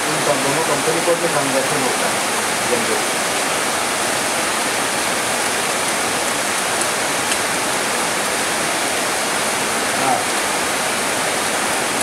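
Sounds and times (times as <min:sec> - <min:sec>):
heavy rain on leaves: 0:00.0 - 0:12.0.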